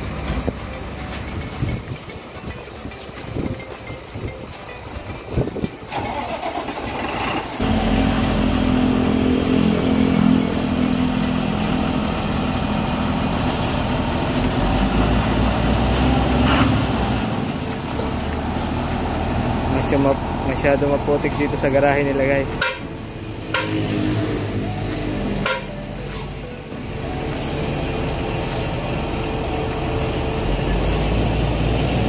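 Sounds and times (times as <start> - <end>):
diesel bus engine starting and idling: 0.0 - 1.9, 4.9 - 32.0.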